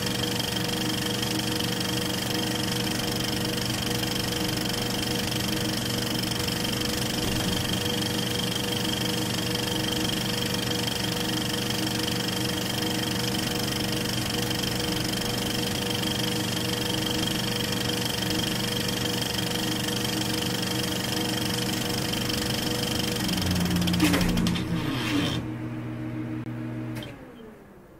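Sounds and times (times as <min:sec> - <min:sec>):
film projector whirring: 0:00.0 - 0:25.6.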